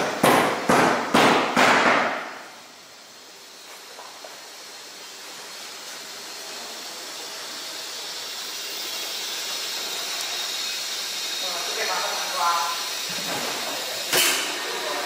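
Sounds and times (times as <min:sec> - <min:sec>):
steady hiss: 0:02.0 - 0:15.0.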